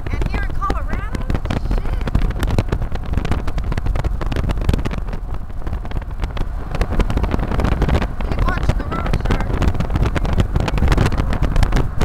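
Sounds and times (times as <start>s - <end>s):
car road rumble: 0.0s - 12.0s
wind crackling on microphone: 0.0s - 12.0s.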